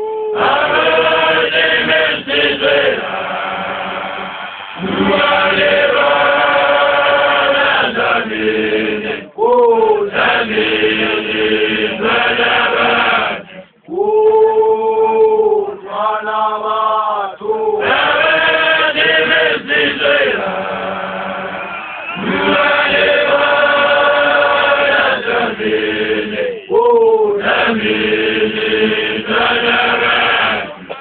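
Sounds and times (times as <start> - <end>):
group singing a chant: 0.0 - 31.0.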